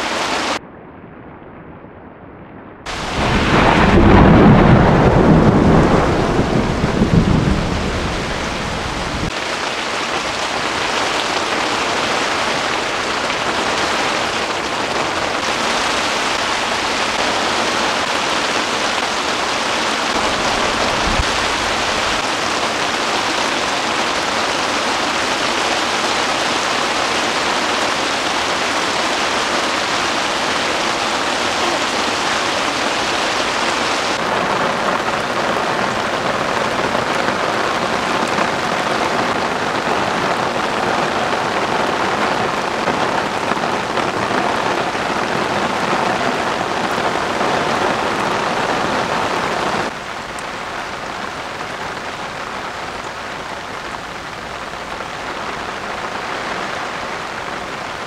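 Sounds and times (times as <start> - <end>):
heavy rain on a tent: 0.0 - 0.6, 2.8 - 58.0.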